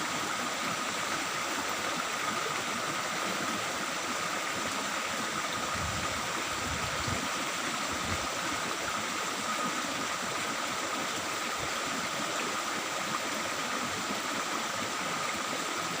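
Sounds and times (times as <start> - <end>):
stream trickling and babbling: 0.0 - 16.0.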